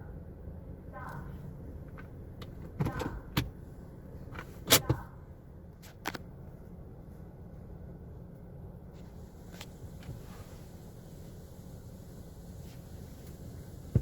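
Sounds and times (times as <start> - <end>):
car wash low rumble: 0.0 - 14.0.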